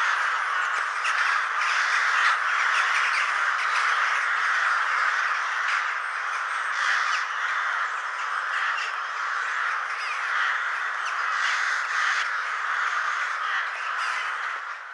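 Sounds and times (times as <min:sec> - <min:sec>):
high bird calls: 0:00.0 - 0:14.9
ravens cawing: 0:00.0 - 0:14.9.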